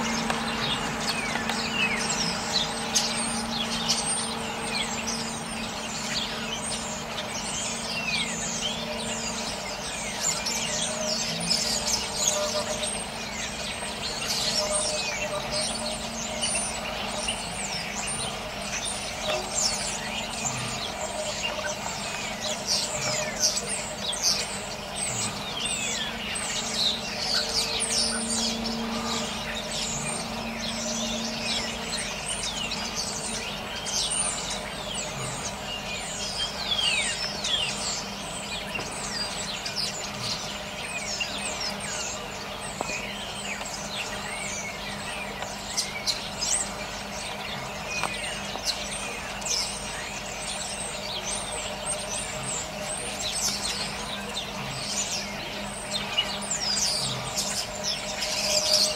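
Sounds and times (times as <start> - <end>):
songbirds chirping and whistling: 0.0 - 58.9.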